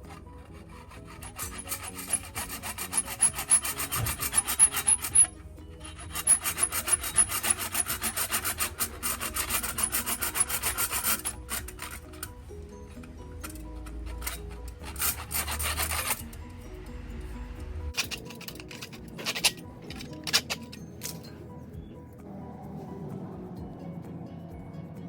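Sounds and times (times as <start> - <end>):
metal filing rasping strokes: 0.0 - 21.6
soft background music: 0.0 - 25.0.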